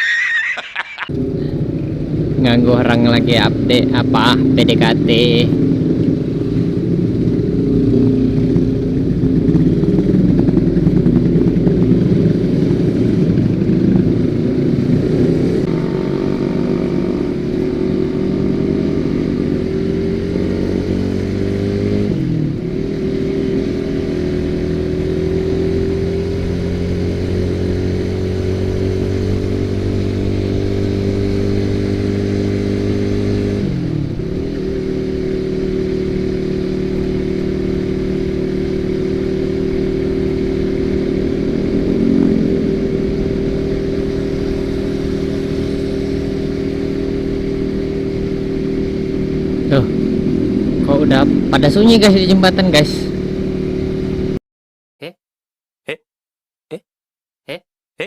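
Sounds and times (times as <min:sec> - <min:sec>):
motorcycle engine running: 0:01.1 - 0:54.4.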